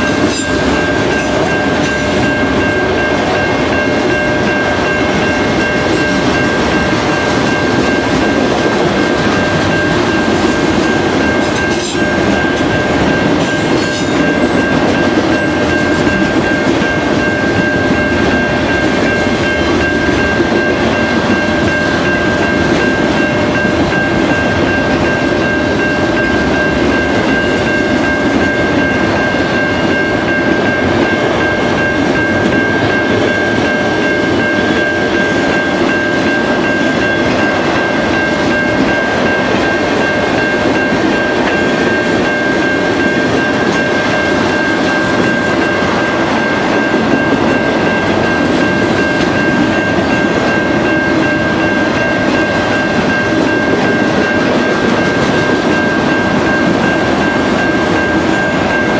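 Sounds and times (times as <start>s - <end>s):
steady high-pitched tone: 0.0s - 58.9s
train wheels rolling over rails: 0.0s - 58.9s.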